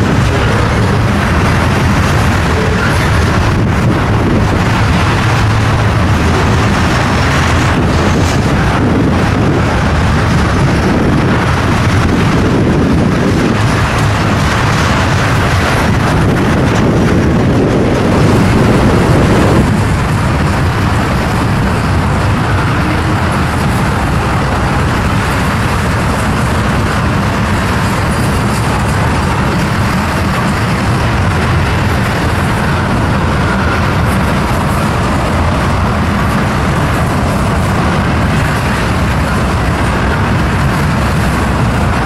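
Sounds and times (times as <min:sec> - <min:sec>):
freight train: 0:00.0 - 0:42.0
wind buffeting microphone: 0:00.0 - 0:42.0.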